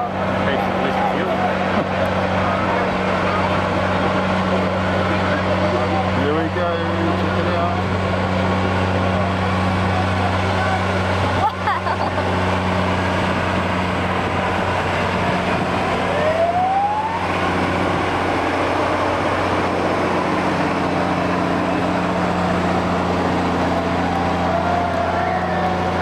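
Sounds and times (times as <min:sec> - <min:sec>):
trucks driving past: 0:00.0 - 0:26.0.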